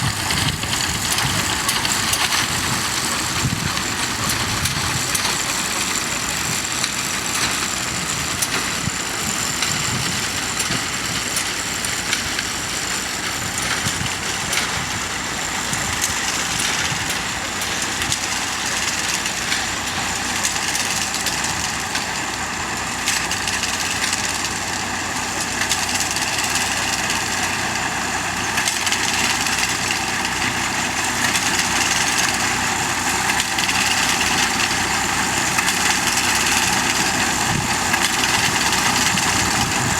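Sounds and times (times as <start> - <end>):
machinery clicking clatter: 0.0 - 39.9
tractor engine running: 0.0 - 39.9.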